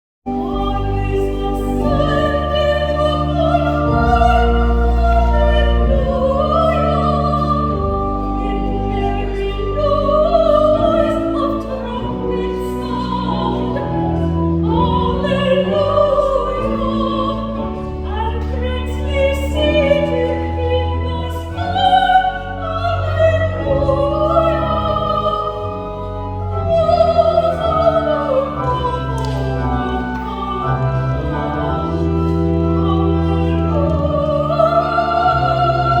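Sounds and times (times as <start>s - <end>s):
organ chords: 0.3s - 36.0s
soprano singing with vibrato: 0.3s - 36.0s.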